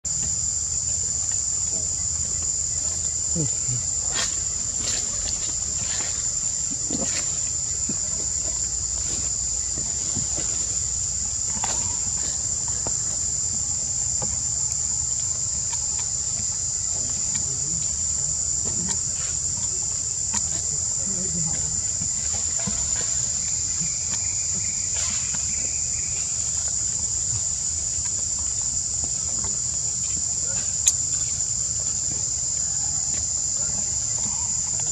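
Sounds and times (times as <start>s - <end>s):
insects singing: 0.1s - 34.9s.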